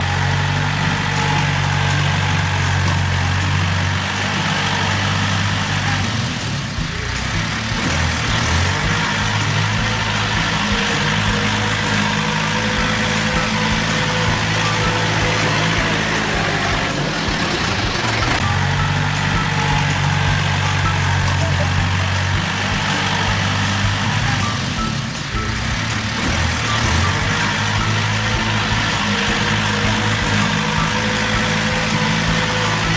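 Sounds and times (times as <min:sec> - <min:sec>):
bulldozer diesel engine drone: 0:00.0 - 0:32.9.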